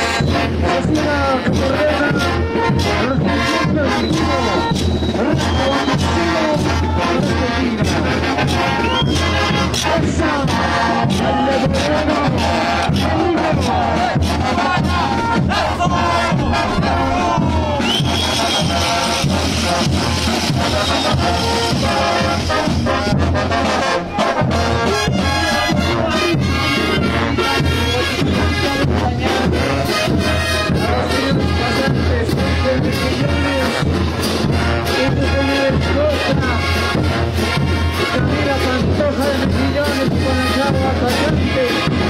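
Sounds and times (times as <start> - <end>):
bass drums marching beat: 0.0 - 42.0
brass band playing: 0.0 - 42.0
trumpets and trombones: 0.0 - 42.0.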